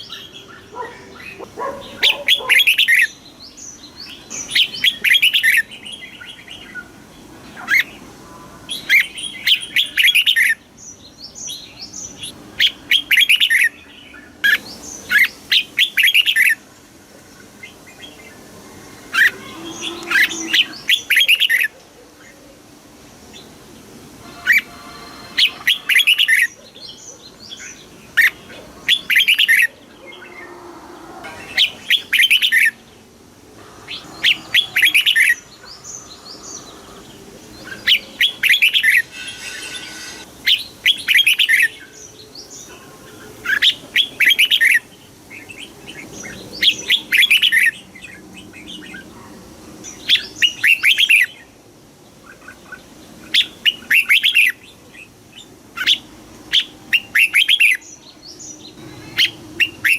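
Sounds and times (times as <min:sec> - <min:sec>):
bird singing warbling phrases: 0:00.0 - 0:16.6, 0:19.0 - 0:21.8, 0:24.2 - 0:49.2, 0:49.9 - 0:51.5, 0:52.2 - 0:59.9.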